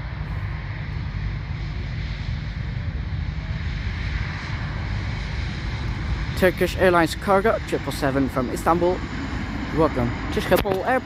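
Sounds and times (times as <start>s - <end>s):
jet engines roaring: 0.0s - 11.0s
wind rumble on microphone: 0.0s - 11.0s.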